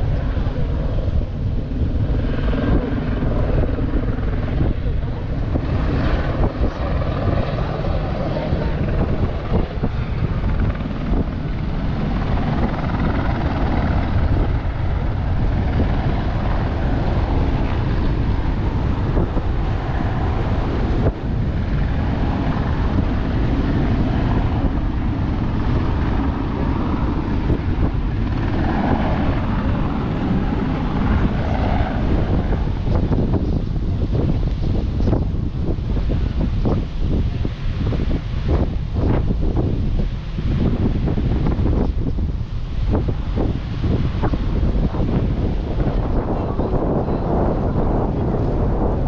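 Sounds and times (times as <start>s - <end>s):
ferry low rumble: 0.0s - 49.0s
wind noise: 0.0s - 49.0s.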